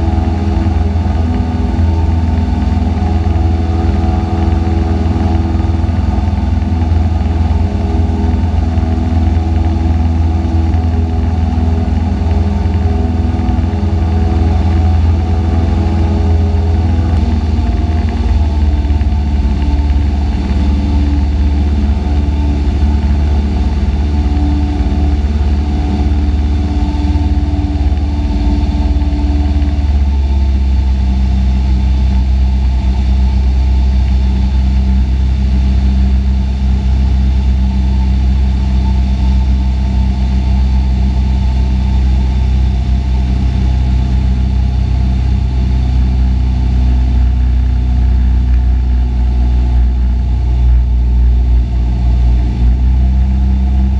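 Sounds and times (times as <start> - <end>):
propeller plane engine droning: 0.0 - 53.9.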